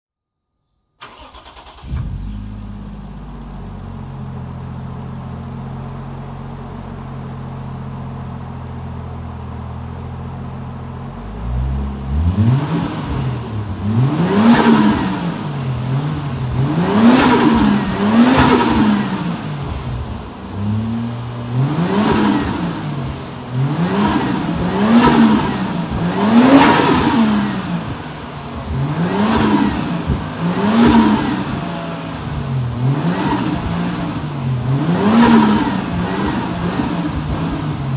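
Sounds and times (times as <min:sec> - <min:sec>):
car engine idling and revving: 0:01.0 - 0:37.9.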